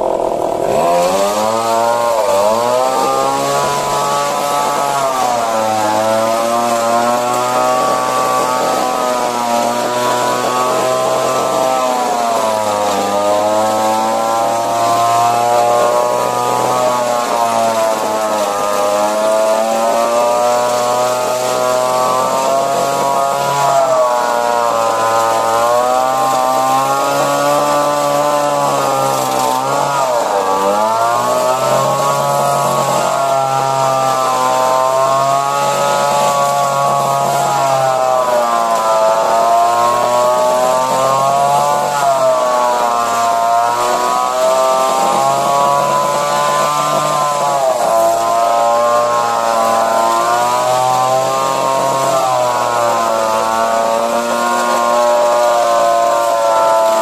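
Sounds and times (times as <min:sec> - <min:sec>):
hedge trimmer engine revving: 0:00.0 - 0:57.0.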